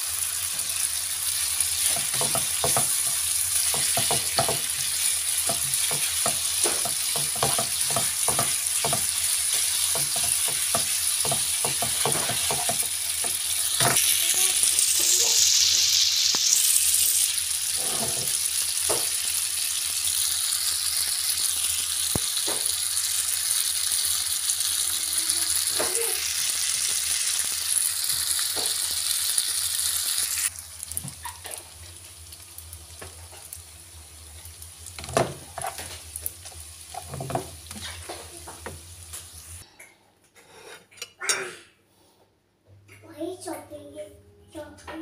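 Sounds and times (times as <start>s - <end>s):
spaghetti sizzling in a frying pan: 0.0s - 39.6s.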